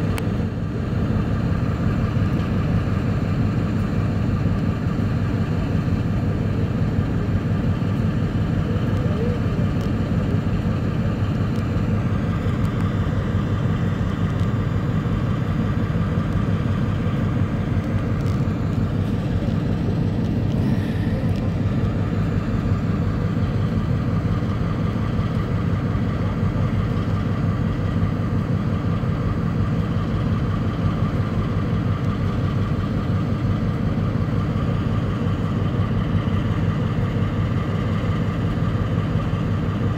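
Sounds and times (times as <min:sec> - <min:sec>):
locomotive diesel engine idling: 0:00.0 - 0:39.9.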